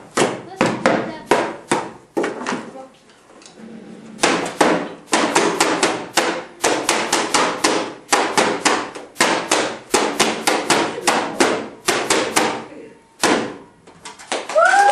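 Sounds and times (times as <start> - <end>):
beating on plastic bottles: 0.0 - 2.7, 4.2 - 13.6.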